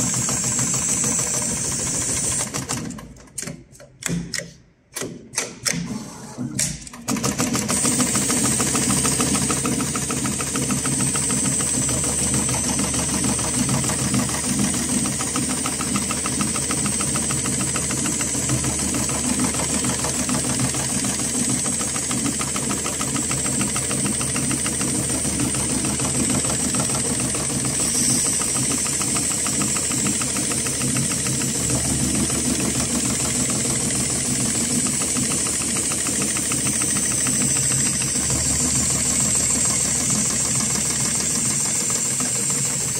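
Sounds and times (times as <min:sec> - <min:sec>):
sewing machine stitching: 0:00.0 - 0:04.2, 0:05.0 - 0:42.9
sewing machine clicks: 0:06.6 - 0:42.9.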